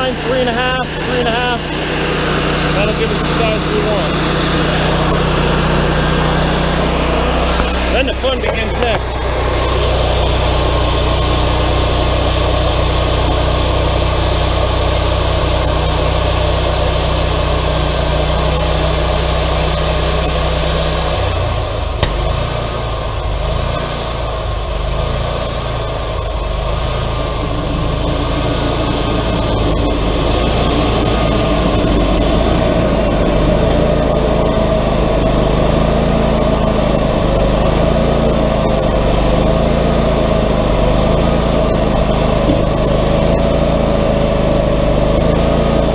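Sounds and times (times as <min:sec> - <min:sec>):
sawmill engine droning: 0:00.0 - 0:45.9.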